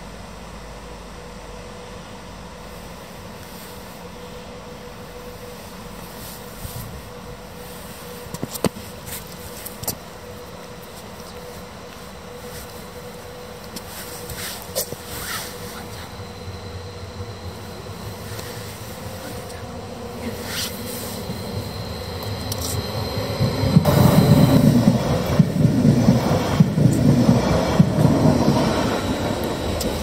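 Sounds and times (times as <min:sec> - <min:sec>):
electric train humming: 0:00.0 - 0:30.0.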